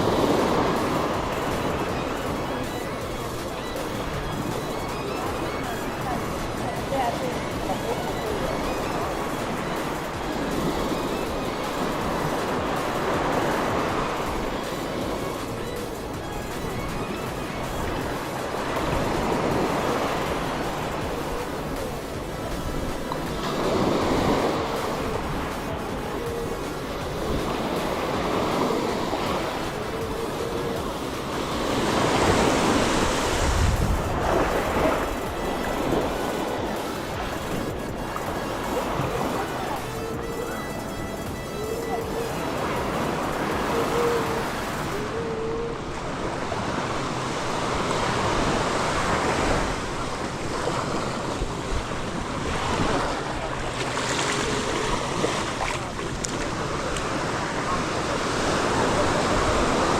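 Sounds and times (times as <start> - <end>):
sea waves washing on beach: 0.0 - 59.9
wave breaking: 0.0 - 59.9
wind on microphone: 0.0 - 59.9.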